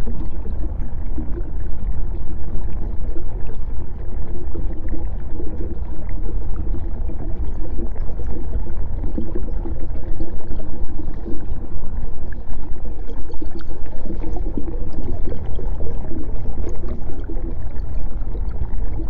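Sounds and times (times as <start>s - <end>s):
dense low underwater rumble: 0.0s - 19.0s.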